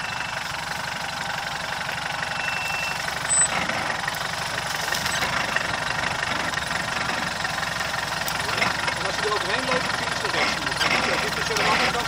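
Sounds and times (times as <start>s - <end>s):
vehicle engine at low revs: 0.0s - 12.0s.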